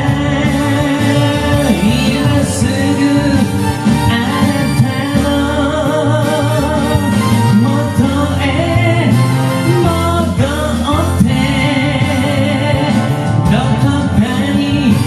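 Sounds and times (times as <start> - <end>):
karaoke backing track: 0.0 - 15.0
man singing with vibrato: 0.0 - 15.0.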